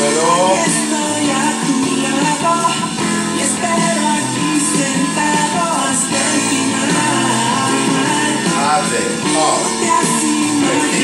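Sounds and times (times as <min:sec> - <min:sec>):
song with singing: 0:00.0 - 0:11.0.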